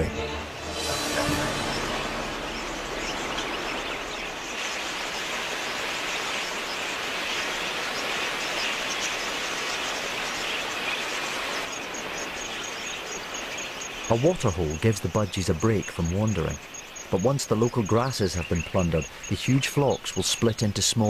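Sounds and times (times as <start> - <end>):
flock of budgerigars chattering: 2.4 - 21.0.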